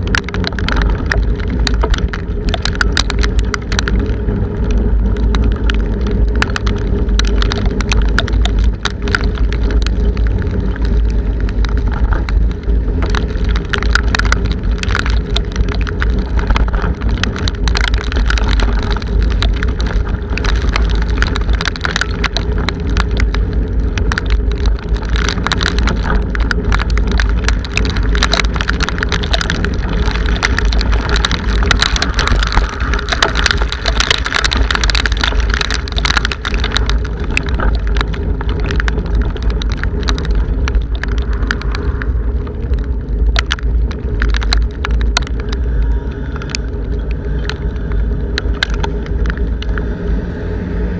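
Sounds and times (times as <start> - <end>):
raindrops clicking on camera: 0.0 - 50.9
wind buffeting microphone: 0.0 - 50.9.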